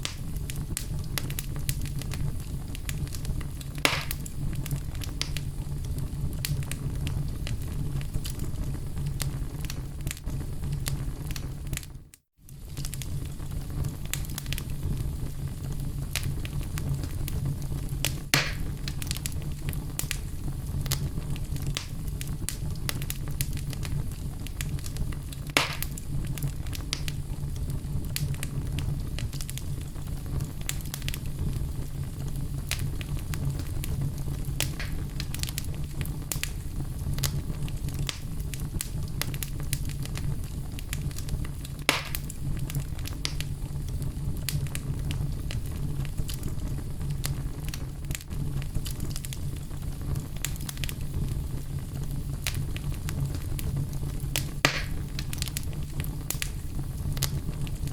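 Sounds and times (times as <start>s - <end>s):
fire crackling: 0.0s - 57.9s
fire popping: 0.0s - 57.9s.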